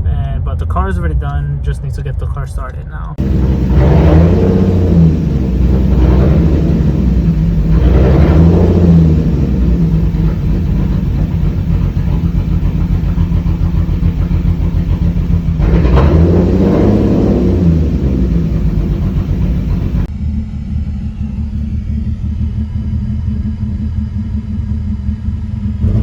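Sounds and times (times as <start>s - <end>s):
car engine revving: 3.2s - 26.0s.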